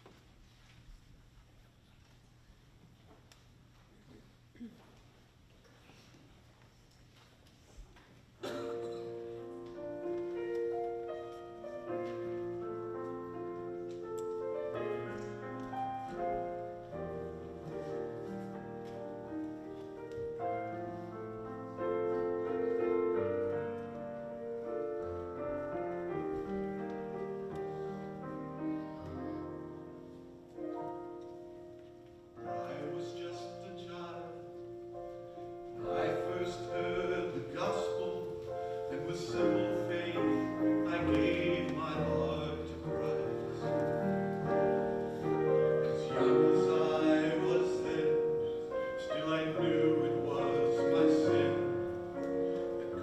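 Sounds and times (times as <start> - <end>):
gospel piano chords: 8.4 - 53.0.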